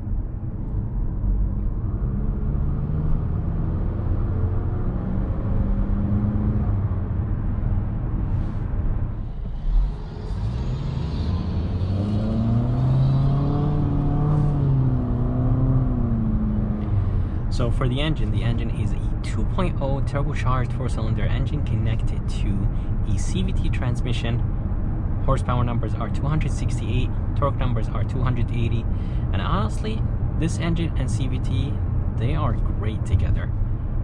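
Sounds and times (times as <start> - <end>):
car engine hum: 0.0 - 34.0
road and tyre rumble: 0.0 - 34.0.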